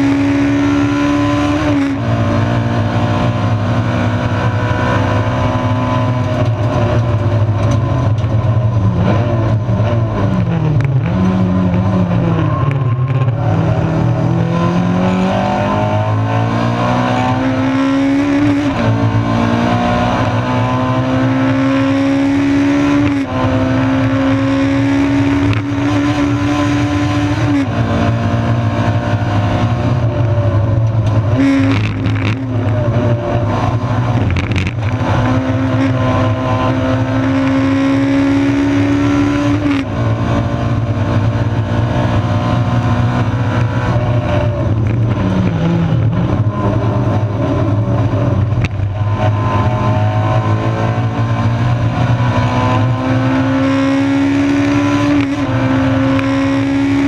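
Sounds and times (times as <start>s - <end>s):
low road drone: 0.0s - 57.0s
race car engine revving: 0.0s - 57.0s.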